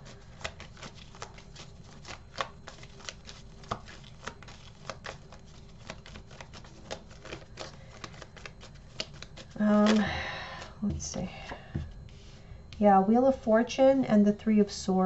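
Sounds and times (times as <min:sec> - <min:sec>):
cards being shuffled: 0:00.0 - 0:12.8.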